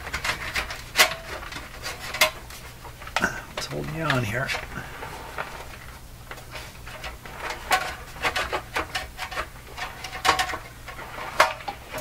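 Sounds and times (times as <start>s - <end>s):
metal cover clicks and scrapes: 0.0s - 12.0s.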